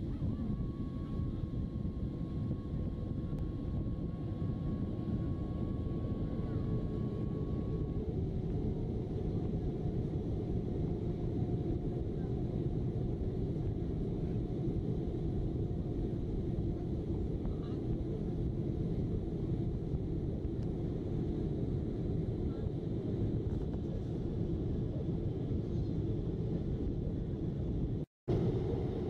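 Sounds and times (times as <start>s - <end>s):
jet engines rumbling in cabin: 0.0s - 29.0s.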